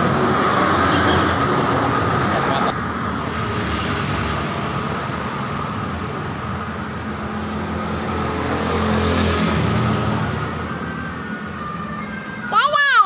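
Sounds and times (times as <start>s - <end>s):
bus passing by: 0.0s - 12.6s
road noise: 0.0s - 13.0s.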